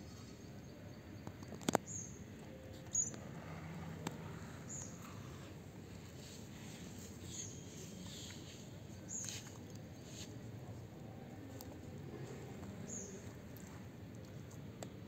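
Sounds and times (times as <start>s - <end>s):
tortoise munching: 2.3s - 15.0s.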